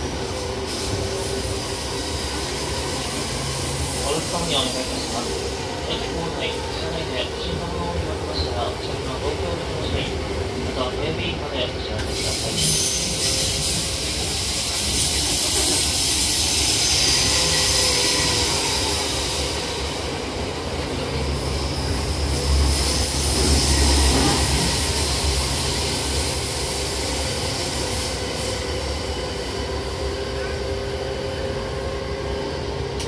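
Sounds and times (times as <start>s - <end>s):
train wheel and track rumble: 0.0s - 33.0s.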